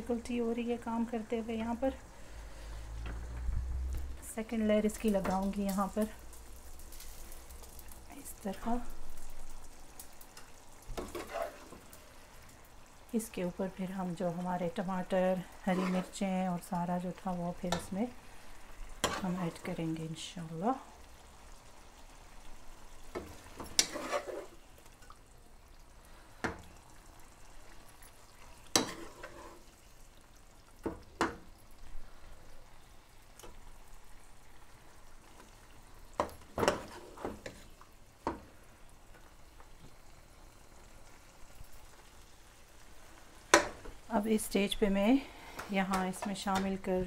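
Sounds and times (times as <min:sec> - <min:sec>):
hot pot hissing: 0:00.1 - 0:47.0.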